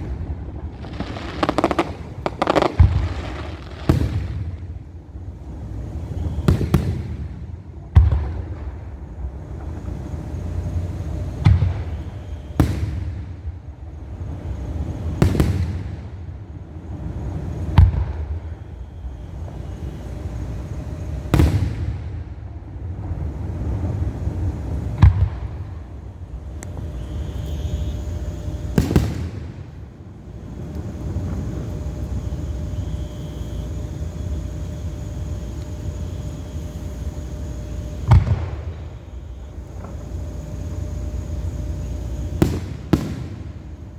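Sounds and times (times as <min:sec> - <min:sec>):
fireworks bursting with booms: 0:00.0 - 0:43.9.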